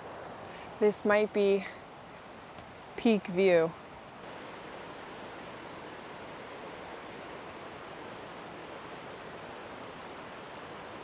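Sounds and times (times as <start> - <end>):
rain: 0.0 - 3.1, 3.7 - 11.0
distant waterfalls: 0.0 - 11.0.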